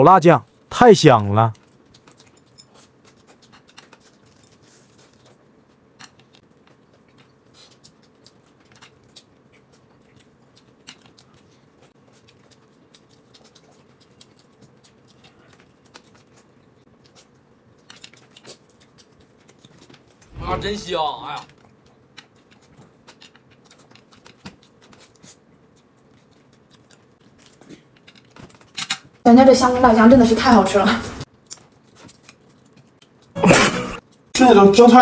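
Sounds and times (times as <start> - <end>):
chewing and crunching food: 1.4 - 20.4, 21.5 - 29.2, 31.2 - 33.4, 34.0 - 34.4.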